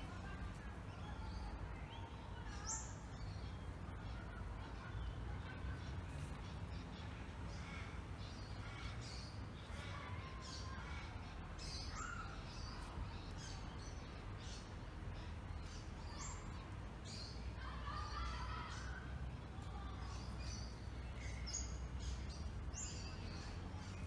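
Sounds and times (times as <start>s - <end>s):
bird chirps and calls: 0.0s - 24.0s.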